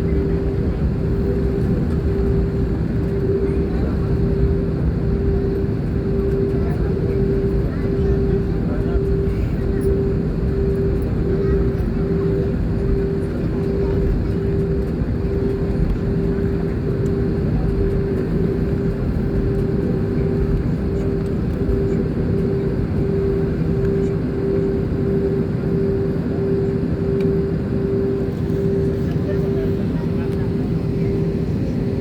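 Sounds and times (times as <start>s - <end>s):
airliner engine and airflow rumble: 0.0s - 32.0s
pulsing humming tone: 0.0s - 32.0s.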